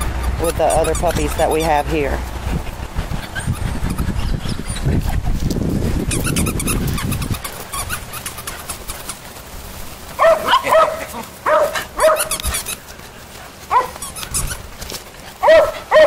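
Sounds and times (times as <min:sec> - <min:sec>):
puppies barking: 0:00.0 - 0:16.0.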